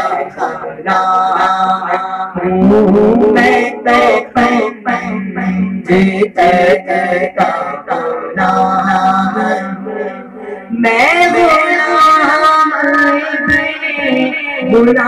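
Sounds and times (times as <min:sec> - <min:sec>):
man singing through loudspeaker: 0:00.0 - 0:15.0.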